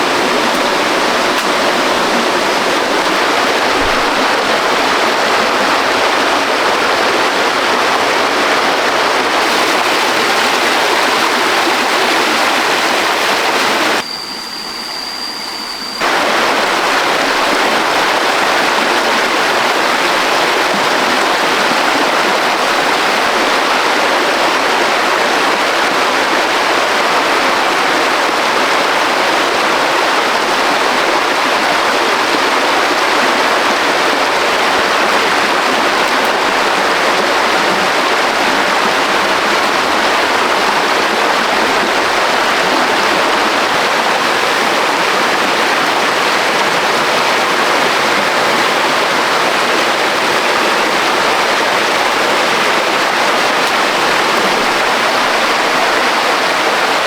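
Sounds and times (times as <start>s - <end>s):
waterfall rapids rushing: 0.0s - 14.0s, 16.0s - 57.0s.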